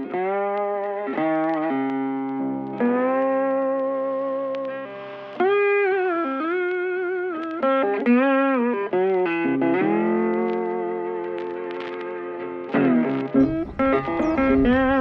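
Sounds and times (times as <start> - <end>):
electric guitar slow melody: 0.0 - 15.0.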